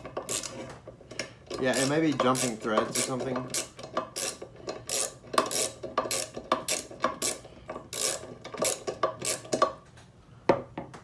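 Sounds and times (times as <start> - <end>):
screwdriver rasping metal strokes: 0.0 - 9.7.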